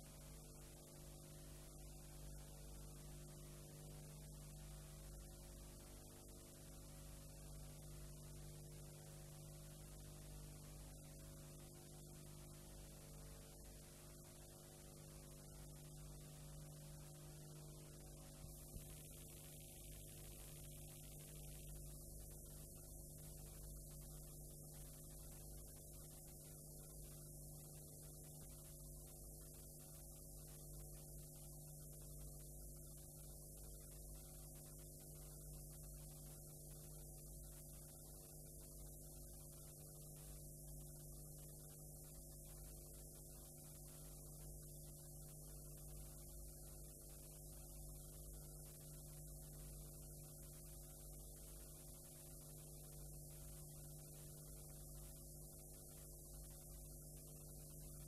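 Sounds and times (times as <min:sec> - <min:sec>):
faint mains hum: 0:00.0 - 0:58.0
high tape hiss: 0:00.0 - 0:58.0.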